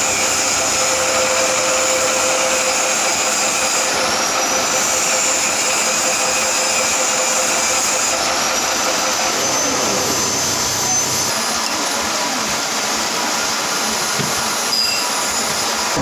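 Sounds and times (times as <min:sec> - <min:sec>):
metal lathe running: 0:00.0 - 0:16.0.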